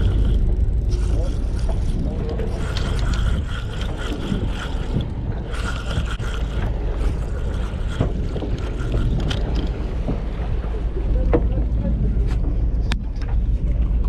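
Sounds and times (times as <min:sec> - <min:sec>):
boat engine rumble: 0:00.0 - 0:14.0
wind on microphone: 0:00.0 - 0:14.0.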